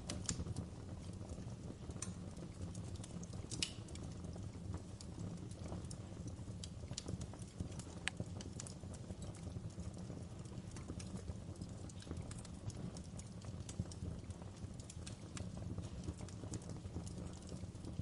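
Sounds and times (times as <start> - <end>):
campfire popping and snapping: 0.0 - 18.0
low rumble of fire: 0.0 - 18.0.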